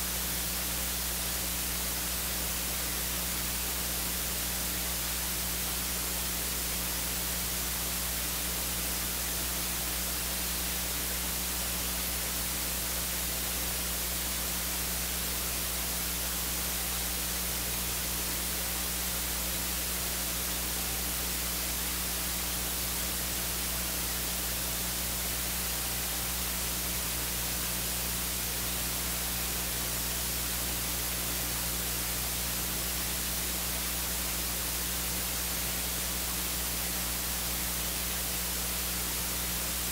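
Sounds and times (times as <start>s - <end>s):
electronic hiss: 0.0s - 39.9s.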